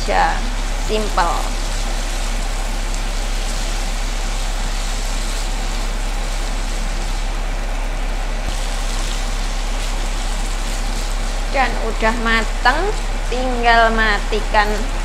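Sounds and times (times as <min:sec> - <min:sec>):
food sizzling in a frying pan: 0:00.0 - 0:15.0
steady low hum: 0:00.0 - 0:15.0.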